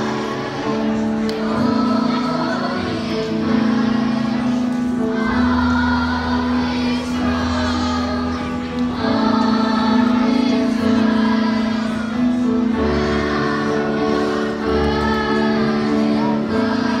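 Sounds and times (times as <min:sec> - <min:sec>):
children singing with music: 0:00.0 - 0:17.0.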